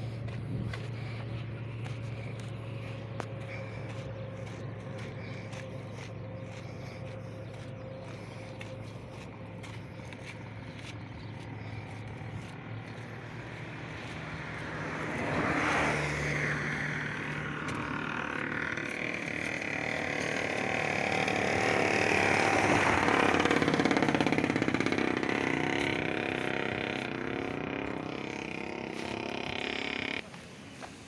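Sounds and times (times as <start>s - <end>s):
vehicles passing on a bridge: 0.0s - 31.0s.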